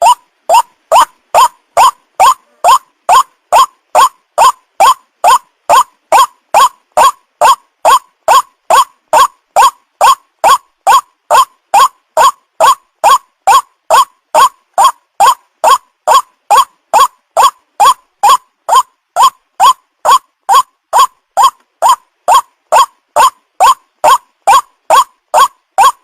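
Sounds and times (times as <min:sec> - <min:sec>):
waterhen harsh croaking call: 0:00.0 - 0:26.0.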